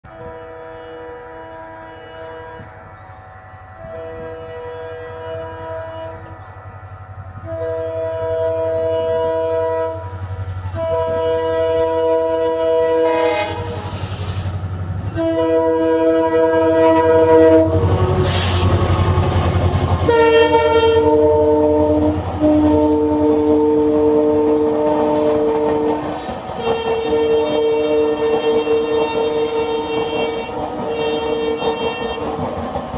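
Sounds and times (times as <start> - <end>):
locomotive air horn blasts: 0.1 - 3.0, 3.7 - 6.6, 7.3 - 14.5, 15.1 - 18.8, 20.0 - 32.3
locomotive engine rumble: 0.1 - 32.9
train passing rushing noise: 2.1 - 32.9.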